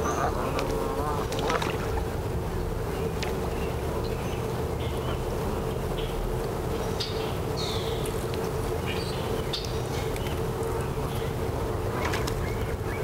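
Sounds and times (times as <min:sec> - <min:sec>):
birds chirping: 0:00.0 - 0:02.0, 0:02.8 - 0:13.0.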